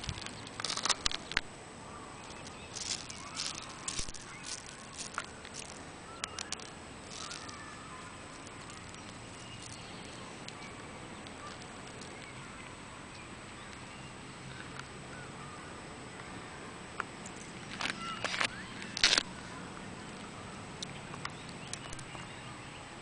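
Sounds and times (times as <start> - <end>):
gravel clicking: 0.0 - 13.9, 17.0 - 22.4
faint steady hiss: 0.0 - 23.0
faint bird chirps: 1.9 - 16.6, 17.9 - 23.0.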